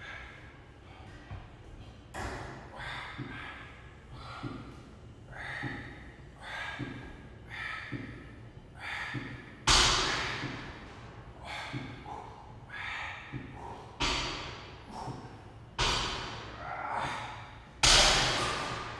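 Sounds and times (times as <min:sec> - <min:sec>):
man breathing hard: 0:00.0 - 0:01.6, 0:02.2 - 0:18.9.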